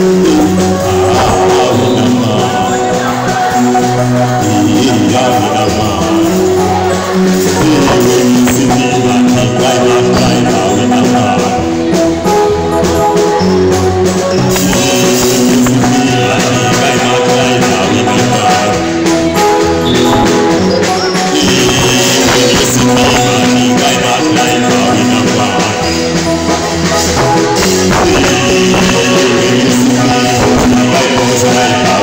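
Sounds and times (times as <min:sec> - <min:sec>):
choir singing: 0:00.0 - 0:32.0
instrumental accompaniment: 0:00.0 - 0:32.0.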